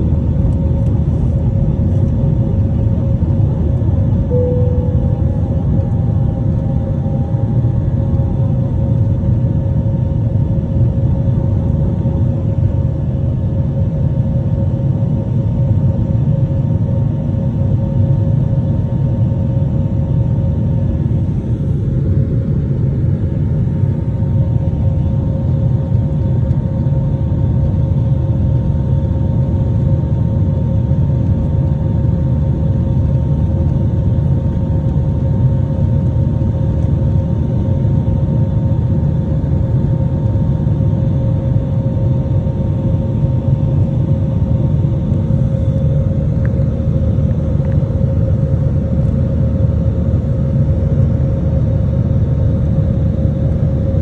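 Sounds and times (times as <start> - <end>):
constant cabin hum: 0.0 - 54.0
jet engine and airflow rumble: 0.0 - 54.0.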